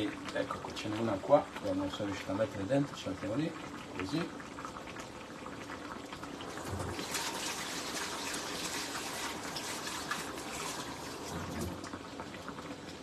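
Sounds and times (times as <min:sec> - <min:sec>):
pasta water boiling: 0:00.0 - 0:13.0
sauce bubbling and crackling: 0:00.0 - 0:13.0.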